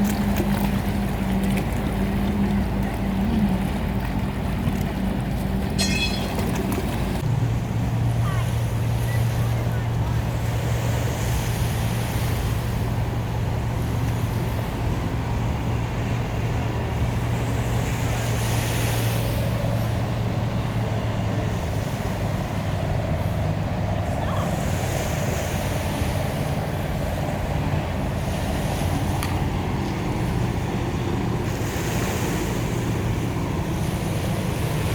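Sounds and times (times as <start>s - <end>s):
boat engine humming: 0.0s - 34.9s.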